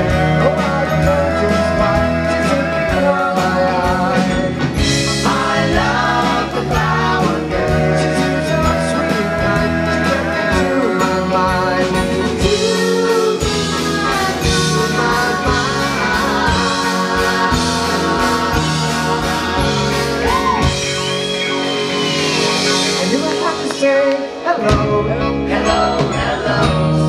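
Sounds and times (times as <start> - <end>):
live pop-rock band: 0.0 - 27.0
person singing: 0.0 - 27.0.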